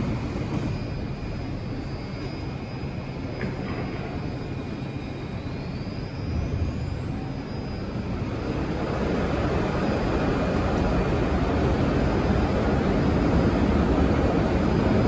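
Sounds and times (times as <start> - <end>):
faint rising whine: 0.0 - 15.0
subway train rumbling: 0.0 - 15.0.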